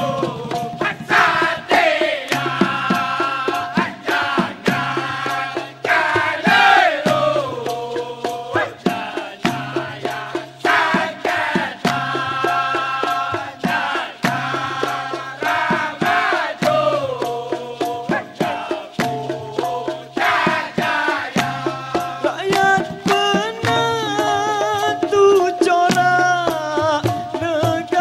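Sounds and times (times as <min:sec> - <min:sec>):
men singing in chorus: 0:00.0 - 0:28.0
sharp percussive beats: 0:00.0 - 0:28.0.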